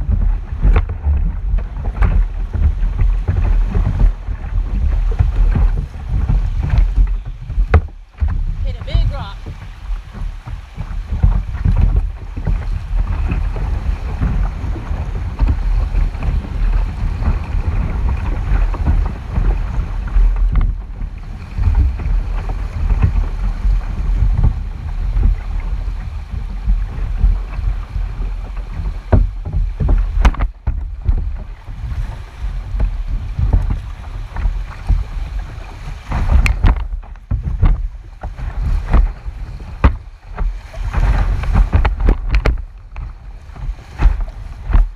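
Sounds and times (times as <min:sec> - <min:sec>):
water splashing around kayak: 0:00.0 - 0:44.9
wind rumble on microphone: 0:00.0 - 0:44.9.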